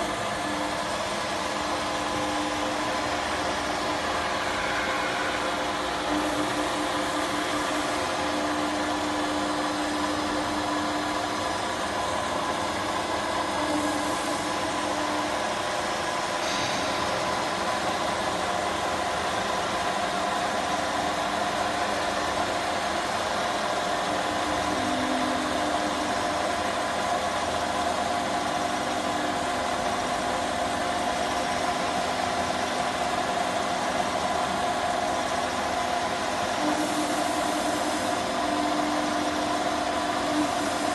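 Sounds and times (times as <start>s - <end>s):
router machine hum: 0.0s - 33.4s
low machine tone: 0.0s - 40.9s.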